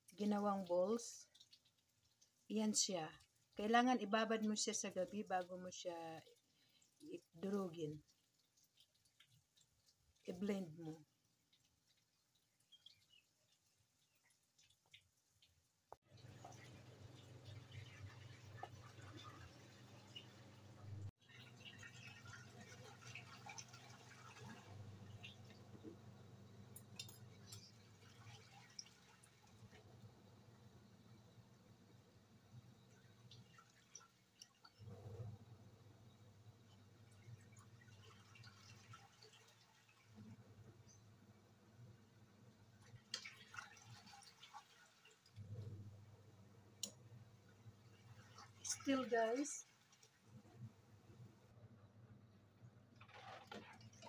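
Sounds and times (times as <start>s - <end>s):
liquid dripping: 0.0s - 41.1s, 42.4s - 45.8s, 46.8s - 51.4s
broth bubbling in a pot: 0.0s - 54.0s.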